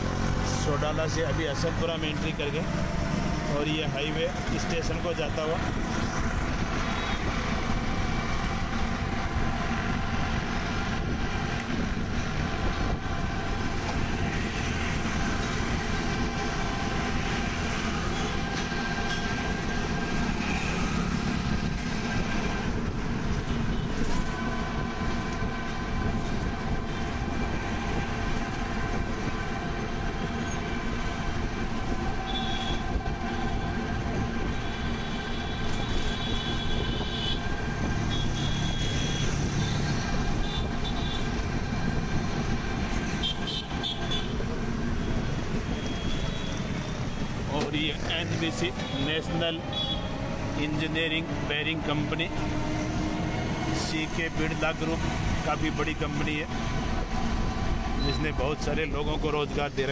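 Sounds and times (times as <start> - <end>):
passing traffic: 0.0 - 59.9.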